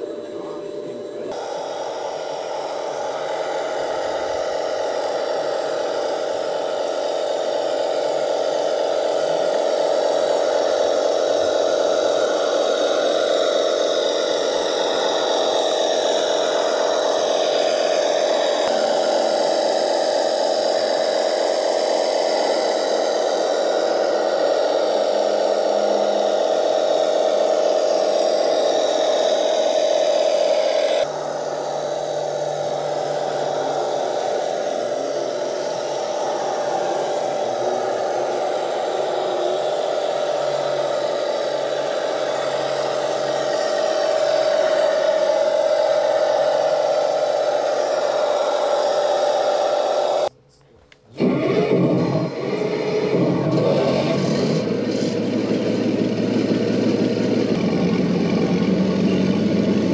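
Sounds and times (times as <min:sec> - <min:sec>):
model tracked truck whirring: 0:00.0 - 0:50.3, 0:51.0 - 0:59.9.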